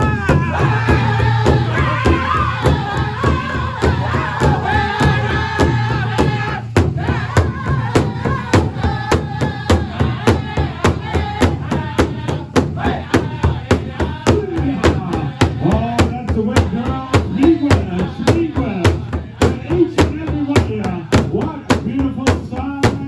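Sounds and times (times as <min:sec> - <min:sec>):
group singing in high voices: 0:00.0 - 0:23.0
large drum beating: 0:00.0 - 0:23.0.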